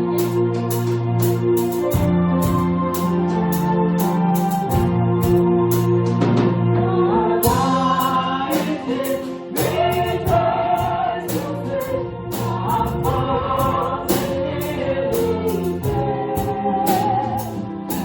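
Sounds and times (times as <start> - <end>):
congregation singing a hymn: 0.0 - 18.0
organ accompaniment: 0.0 - 18.0.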